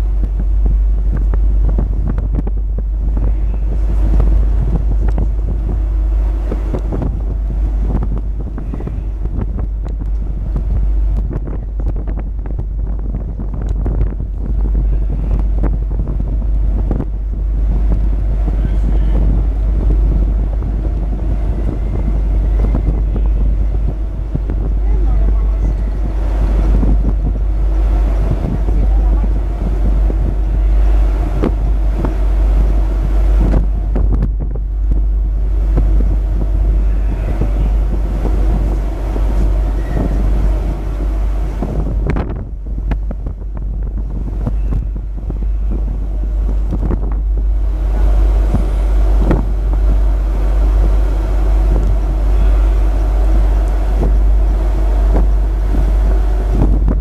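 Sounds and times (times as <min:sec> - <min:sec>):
ship engines rumbling: 0:00.0 - 0:57.0
wind buffeting microphone: 0:00.0 - 0:57.0.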